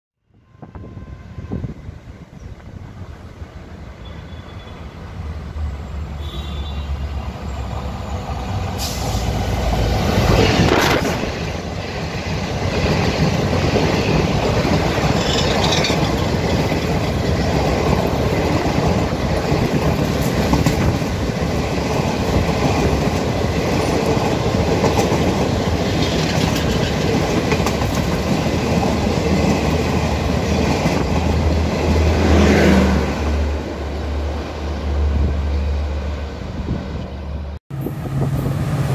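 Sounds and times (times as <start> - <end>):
diesel locomotive passing: 0.3 - 38.9
train coaches rolling past: 0.4 - 38.9.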